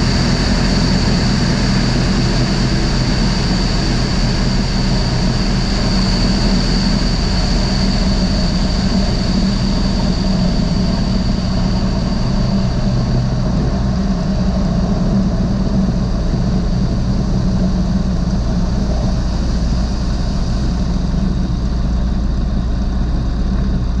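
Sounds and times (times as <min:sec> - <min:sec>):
aircraft engine and propeller running: 0:00.0 - 0:24.0.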